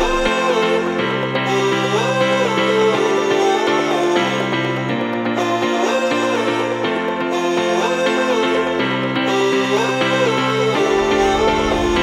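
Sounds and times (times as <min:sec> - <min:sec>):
background music sustained notes: 0:00.0 - 0:12.0.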